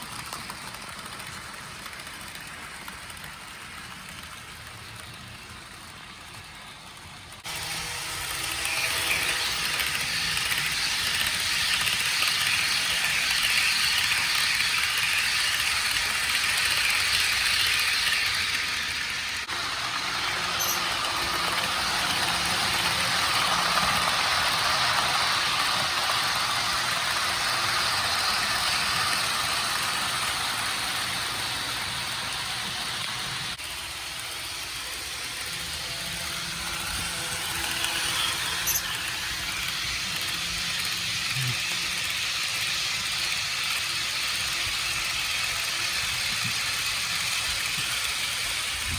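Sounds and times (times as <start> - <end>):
locomotive motor whirring: 0.0 - 48.9
model train wheels rattling: 0.0 - 48.9.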